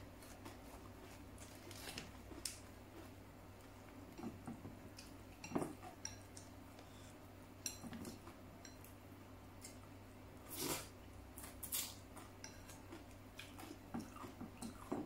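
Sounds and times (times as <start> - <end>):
soft eating sounds: 0.0 - 15.0.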